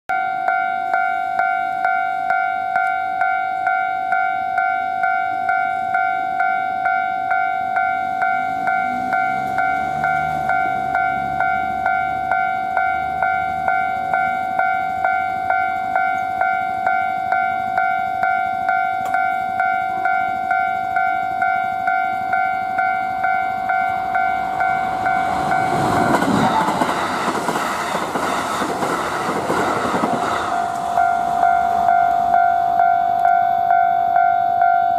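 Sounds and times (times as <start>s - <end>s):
level crossing alarm clanging: 0.1s - 34.9s
train passing at speed: 3.6s - 34.9s.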